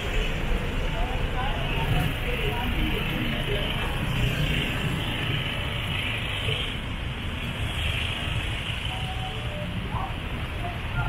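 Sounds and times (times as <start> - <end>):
traffic passing by: 0.0 - 11.0.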